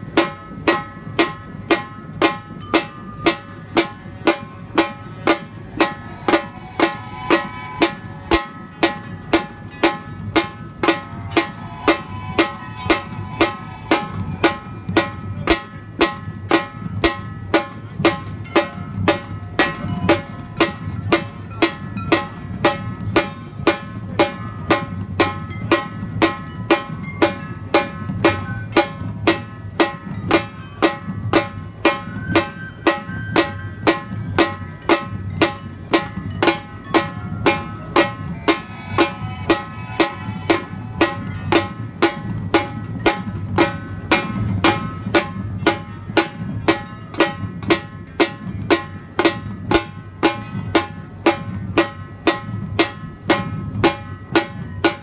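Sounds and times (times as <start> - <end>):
held chords: 0.0 - 51.4
steady drum beat: 0.0 - 55.0.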